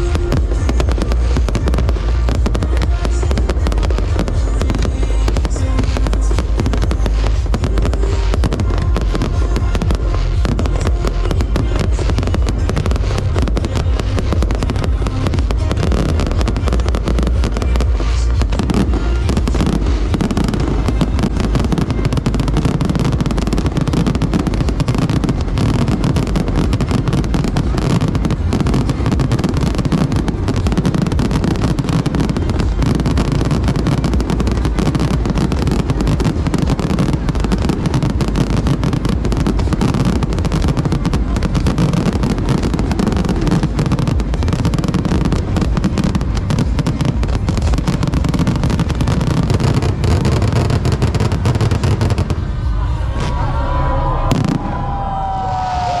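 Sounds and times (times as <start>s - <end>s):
firework explosions: 0.0s - 56.0s
music playing: 0.0s - 56.0s.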